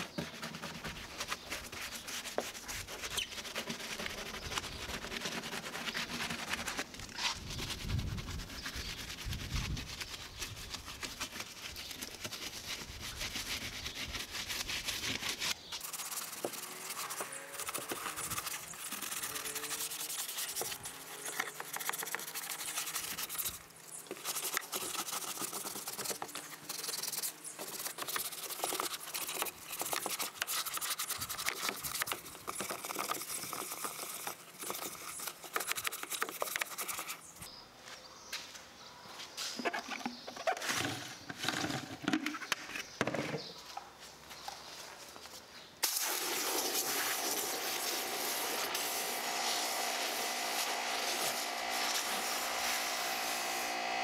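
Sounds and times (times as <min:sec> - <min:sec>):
brush scrubbing wet paint: 0:00.0 - 0:37.5, 0:45.8 - 0:53.6.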